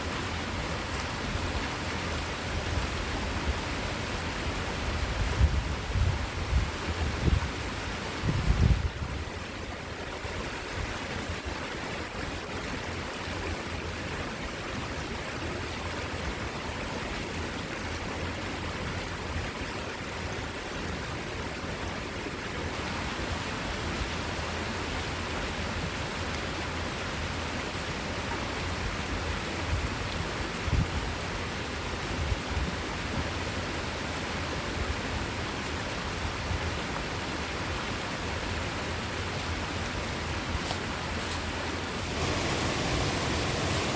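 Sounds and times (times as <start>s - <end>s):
river rushing: 0.0s - 43.9s.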